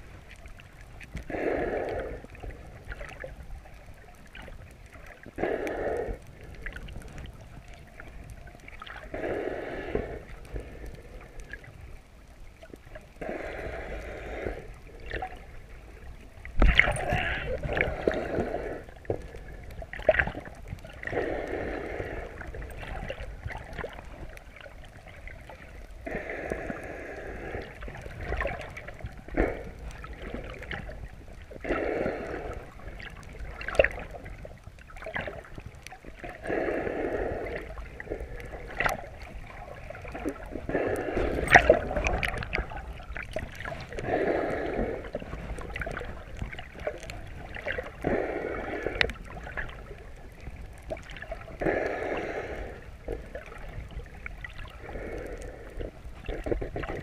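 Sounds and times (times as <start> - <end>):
muffled underwater rushing swells: 0.0 - 57.0.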